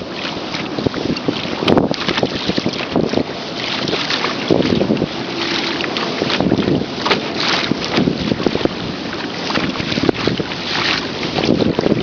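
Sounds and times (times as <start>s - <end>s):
water splashing against hull: 0.0s - 12.0s
wind buffeting microphone: 0.0s - 12.0s.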